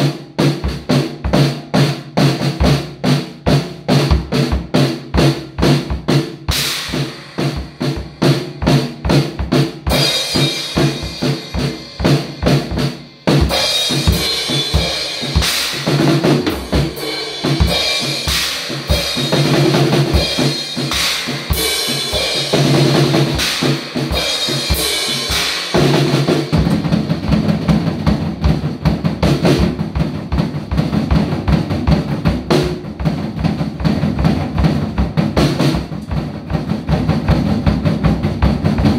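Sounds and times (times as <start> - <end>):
drum kit rock beat: 0.0 - 38.9.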